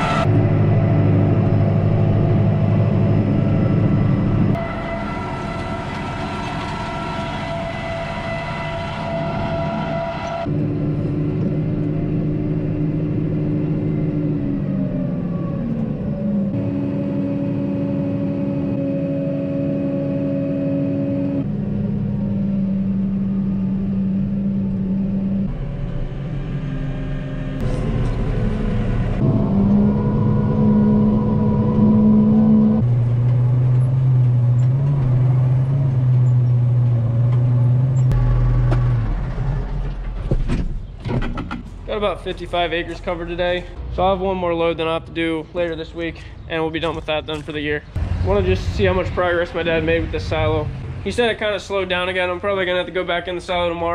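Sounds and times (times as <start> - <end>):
tractor engine running: 0.0 - 17.7, 21.5 - 53.9.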